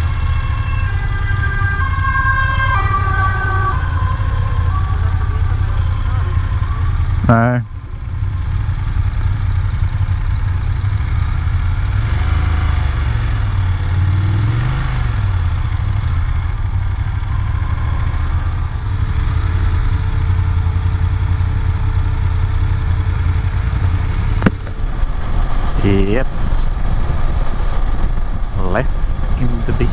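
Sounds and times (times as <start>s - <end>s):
motorcycle engine running: 0.0s - 29.9s
wind and road noise: 0.0s - 29.9s.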